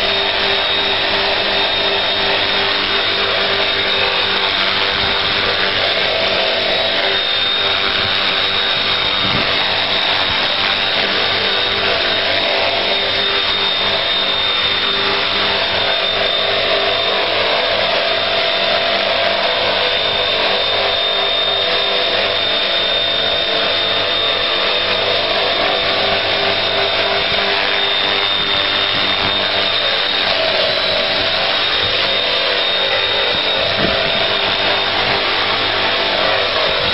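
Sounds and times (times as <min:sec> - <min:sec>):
model helicopter motor whine: 0:00.0 - 0:36.9
rotor spinning: 0:00.0 - 0:36.9.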